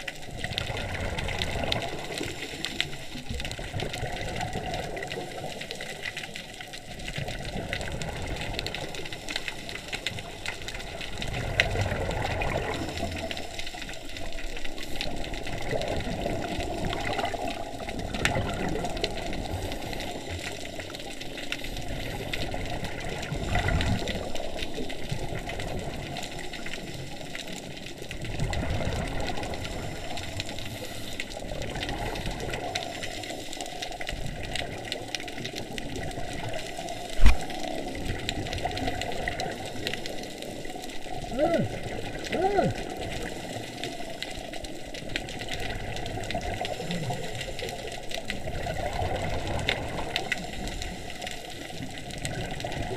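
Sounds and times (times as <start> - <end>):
exhaled bubbles surging: 0.0 - 6.2, 6.8 - 52.9.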